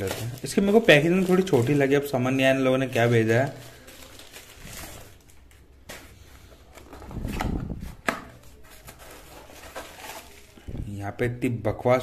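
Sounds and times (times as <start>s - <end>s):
plastic mailer rustling: 0.0s - 10.8s.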